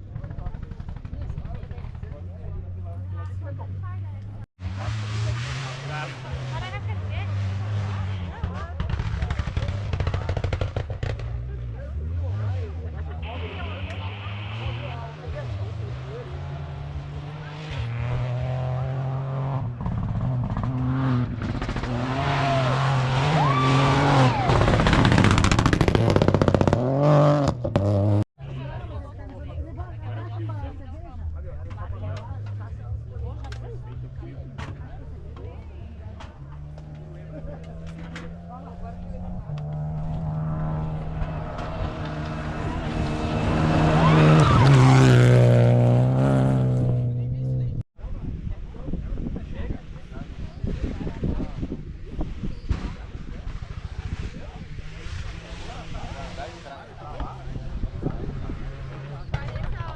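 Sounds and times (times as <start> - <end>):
rally car engine: 0.0 - 59.9.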